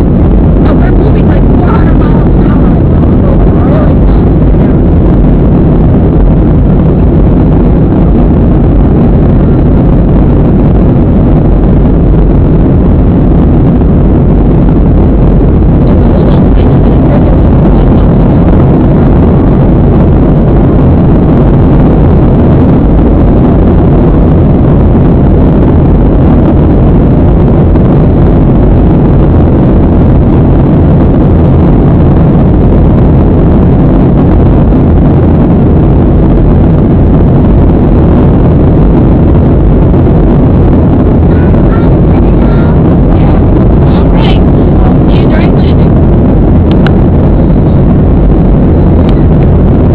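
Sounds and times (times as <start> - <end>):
airplane engine and airflow noise: 0.0 - 49.9
faint low hum: 0.0 - 49.9.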